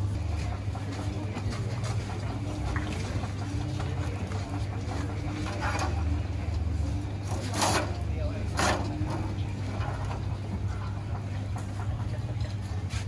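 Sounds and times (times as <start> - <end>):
steady low hum: 0.0 - 13.0
street stall background noise: 0.0 - 13.0.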